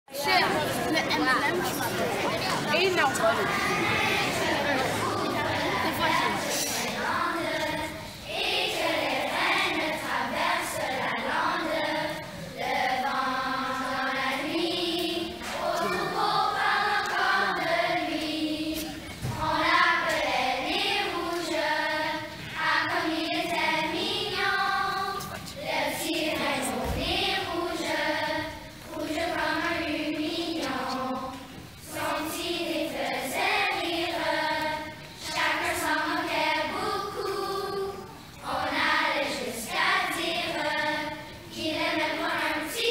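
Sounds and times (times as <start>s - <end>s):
children's choir singing: 0.1s - 42.9s.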